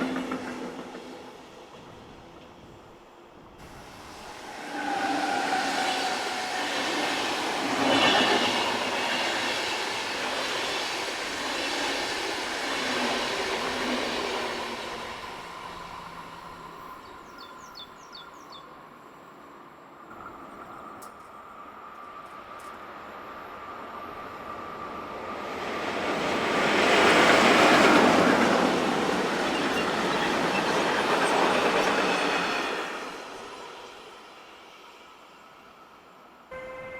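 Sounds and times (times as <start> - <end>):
train passing: 0.0 - 36.9.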